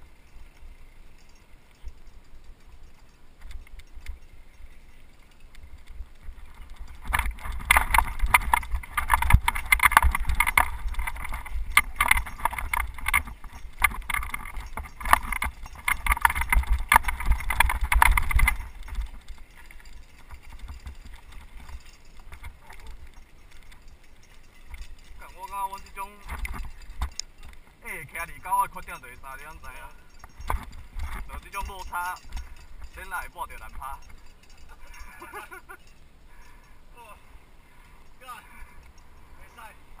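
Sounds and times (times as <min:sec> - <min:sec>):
bike clattering and rattling: 0:00.0 - 0:36.8.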